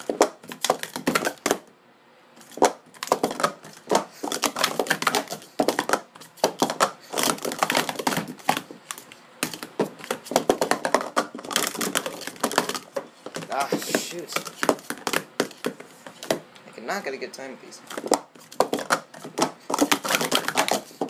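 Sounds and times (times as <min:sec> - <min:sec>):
plastic cups clattering: 0:00.0 - 0:01.6, 0:02.4 - 0:16.4, 0:17.9 - 0:21.0.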